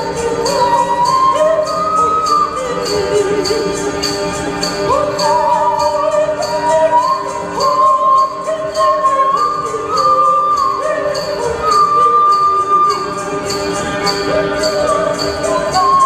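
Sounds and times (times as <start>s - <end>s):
jingling tambourine beat: 0.0s - 16.0s.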